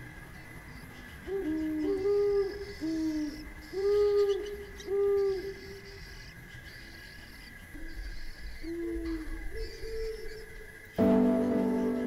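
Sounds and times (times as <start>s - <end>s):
deep hooting calls: 0.0s - 12.0s.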